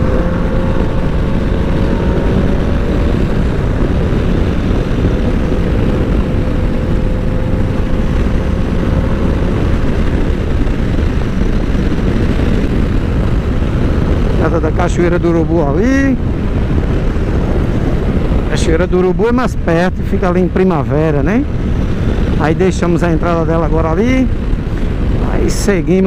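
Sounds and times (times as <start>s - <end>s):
motorcycle engine drone: 0.0s - 26.0s
wind rush on microphone: 0.0s - 26.0s.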